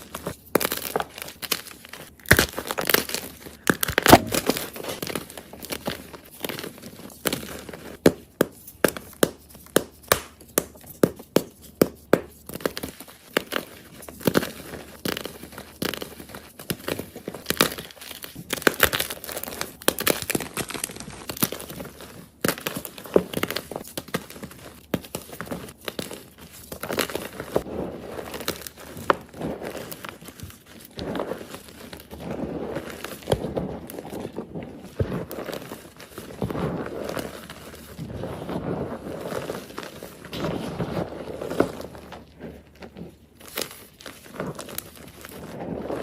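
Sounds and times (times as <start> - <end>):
chalk block crunching: 0.0 - 46.0.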